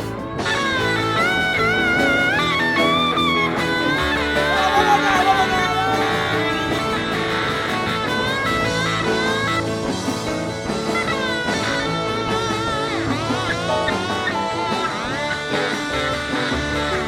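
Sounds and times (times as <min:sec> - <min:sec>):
blues-rock band playing: 0:00.0 - 0:17.0
lead guitar bending notes: 0:00.0 - 0:17.0.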